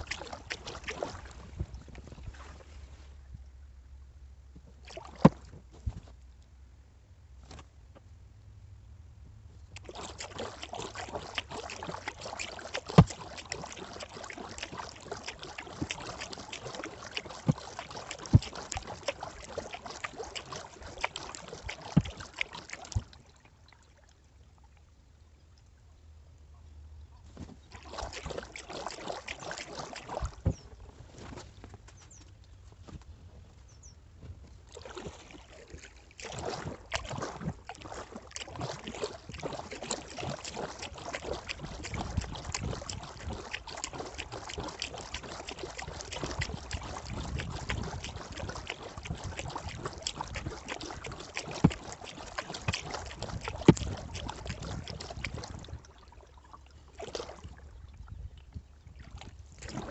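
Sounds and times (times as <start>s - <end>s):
paddle splashing water: 0.0s - 3.2s, 4.7s - 6.2s, 9.7s - 24.8s, 27.2s - 59.9s.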